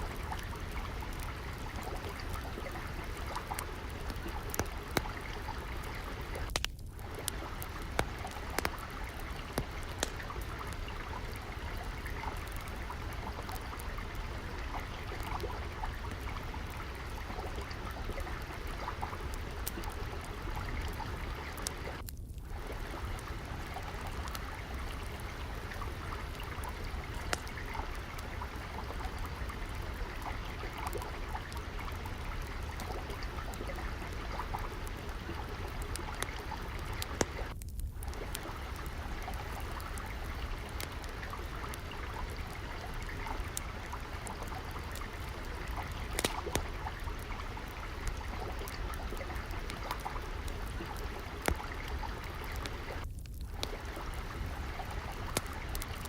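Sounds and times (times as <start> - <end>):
water trickling: 0.0 - 56.0
wood fire crackling: 0.0 - 56.0.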